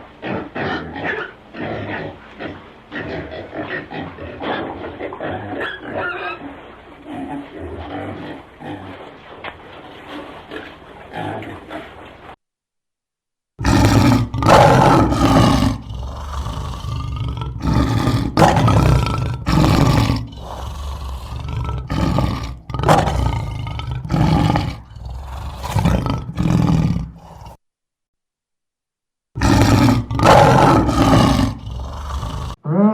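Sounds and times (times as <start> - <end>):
lion roaring: 0.0 - 12.3, 13.6 - 27.6, 29.4 - 32.9
pig grunting: 0.0 - 12.4, 13.6 - 27.6, 29.4 - 32.9.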